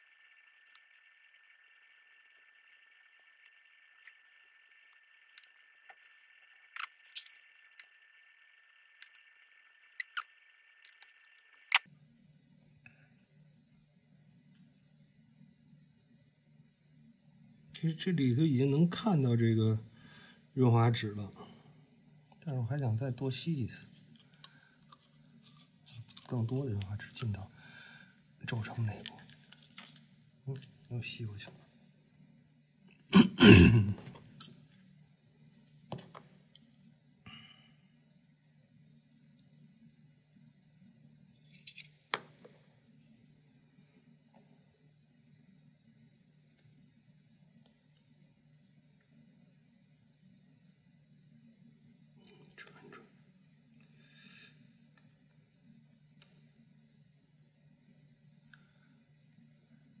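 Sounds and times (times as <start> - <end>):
low steady hum: 0.0 - 60.0.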